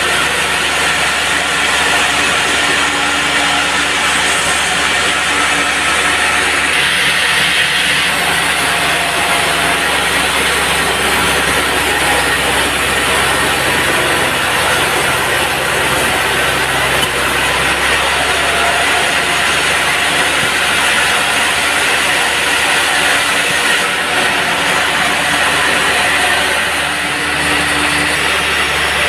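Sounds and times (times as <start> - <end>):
band sawmill running: 0.0 - 29.0
hissing cutting noise: 0.0 - 29.0
low engine hum: 0.0 - 29.0.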